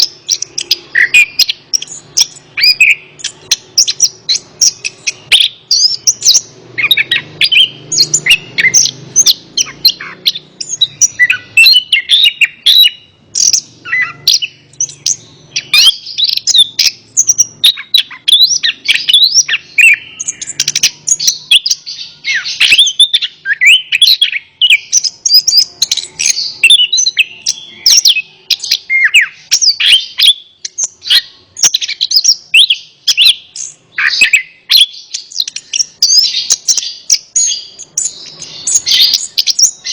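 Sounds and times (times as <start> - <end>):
thrush singing chirps and whistles: 0.0 - 39.9.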